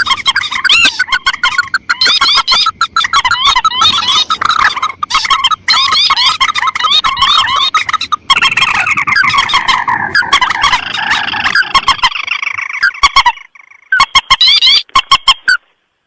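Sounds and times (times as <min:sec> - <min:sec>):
rail and crake calls: 0:00.0 - 0:15.8.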